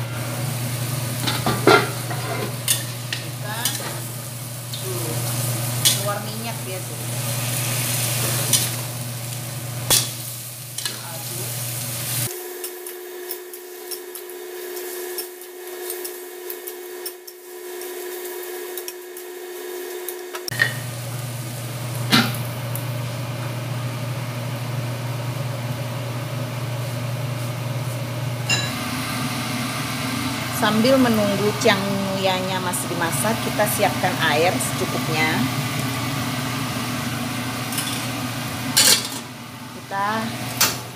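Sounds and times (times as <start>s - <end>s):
food sizzling in a wok: 0.0s - 40.9s.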